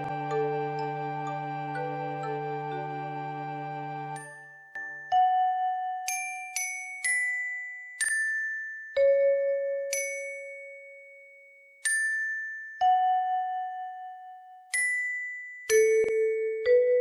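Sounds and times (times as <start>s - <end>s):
bell-toned tuned percussion melody: 0.0s - 17.0s.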